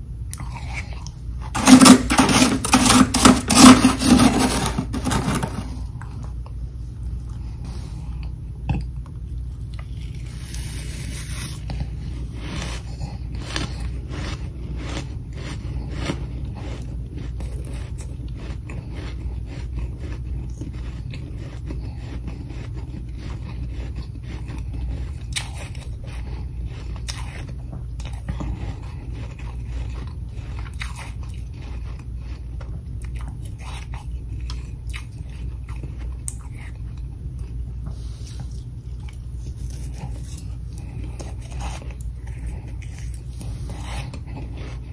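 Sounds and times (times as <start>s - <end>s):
steady low hum: 0.0s - 44.9s
crunching and chewing frost: 0.2s - 44.9s.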